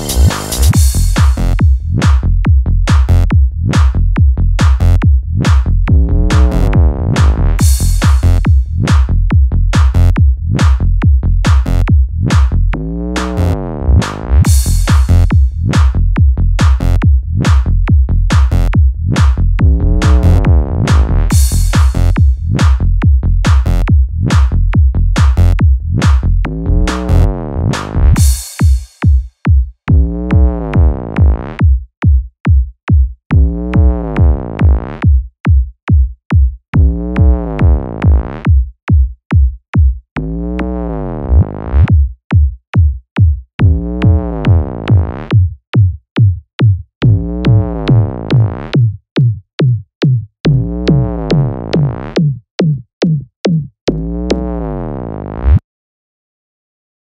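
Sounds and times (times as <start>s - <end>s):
kick drum: 0.7s - 12.7s, 14.4s - 26.5s, 28.1s - 40.3s, 41.8s - 51.0s, 51.8s - 54.0s.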